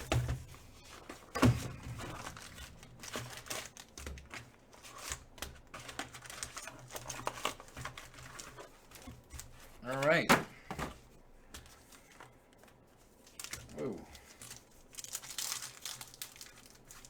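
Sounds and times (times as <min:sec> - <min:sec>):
wrappers crinkling and tearing: 0:00.0 - 0:10.3, 0:11.7 - 0:17.0.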